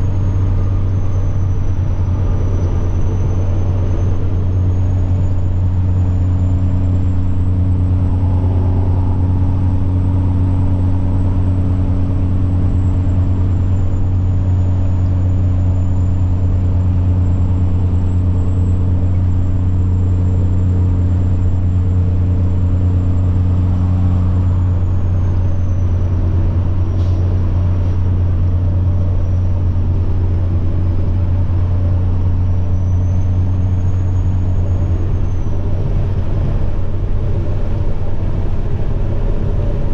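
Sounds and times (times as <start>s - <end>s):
diesel truck engine rumbling: 0.0s - 39.9s
high turbocharger whine: 0.0s - 39.9s.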